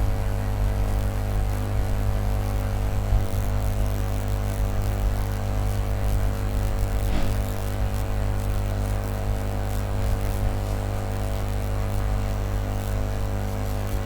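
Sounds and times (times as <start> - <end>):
electrical hum and buzz: 0.0 - 14.0.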